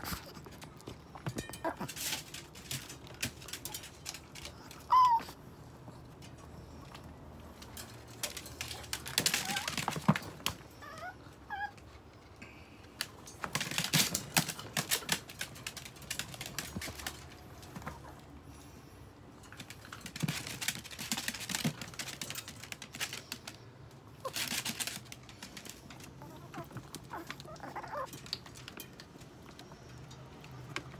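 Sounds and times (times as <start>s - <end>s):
dogs scrambling in wire pen: 0.0s - 11.8s, 13.3s - 18.4s, 19.4s - 30.0s.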